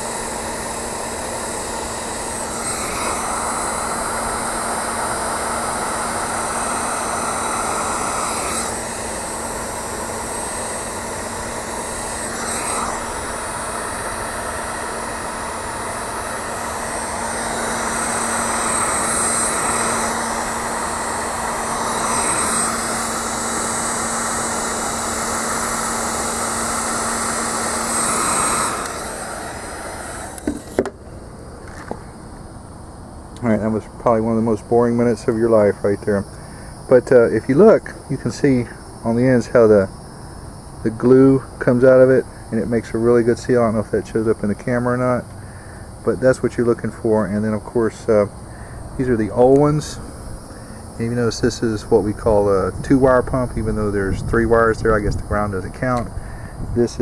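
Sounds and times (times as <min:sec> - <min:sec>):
heat gun fan humming: 0:00.0 - 0:57.0.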